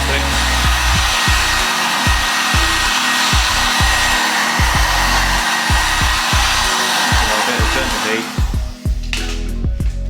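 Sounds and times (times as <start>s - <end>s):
heat gun blowing: 0.0s - 9.4s
background music with steady beat: 0.0s - 10.0s.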